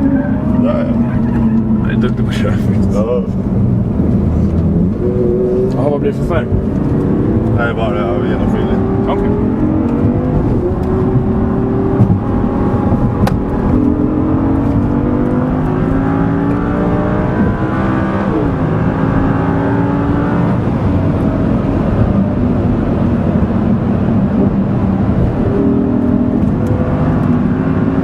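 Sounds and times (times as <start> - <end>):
sports car engine accelerating: 0.0 - 28.0.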